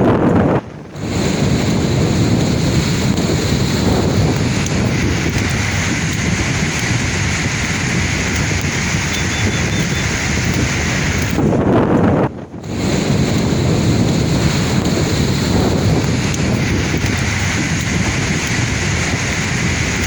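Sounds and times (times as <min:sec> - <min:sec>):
wind buffeting microphone: 0:00.0 - 0:20.0
sea waves surging on shore: 0:00.3 - 0:11.8, 0:12.4 - 0:20.0.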